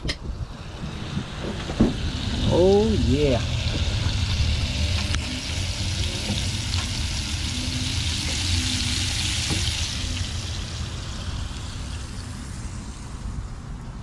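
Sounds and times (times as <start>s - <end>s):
low rumble: 0.3s - 14.0s
fish sizzling in oil: 0.5s - 13.4s.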